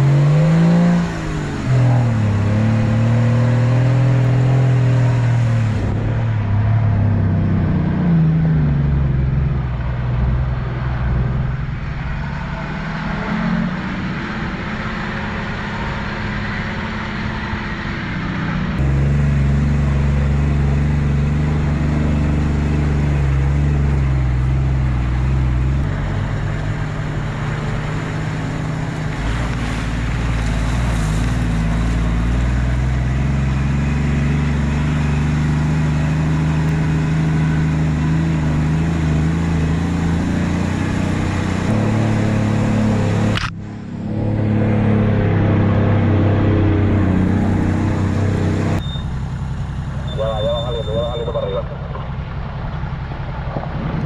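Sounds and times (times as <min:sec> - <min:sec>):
vehicle engine driving: 0:00.0 - 0:54.0.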